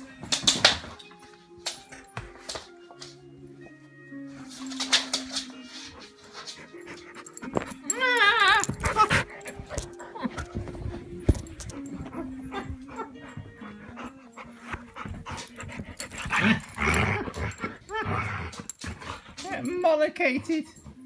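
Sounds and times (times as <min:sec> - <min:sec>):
music playing: 0:00.0 - 0:21.0.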